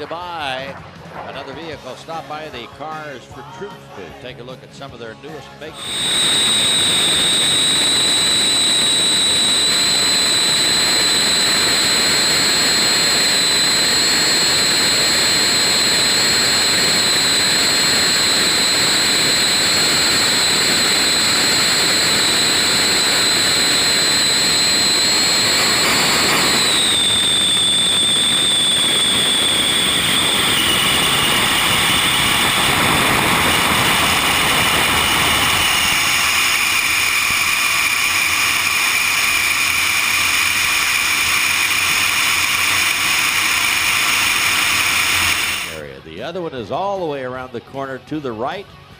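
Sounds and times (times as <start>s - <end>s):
turbojet high whine: 5.7s - 46.1s.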